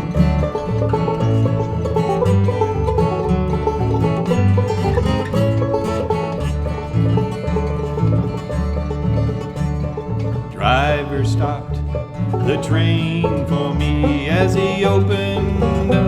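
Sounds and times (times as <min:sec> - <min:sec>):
plucked strings: 0:00.0 - 0:16.0
pulsing bass line: 0:00.0 - 0:16.0.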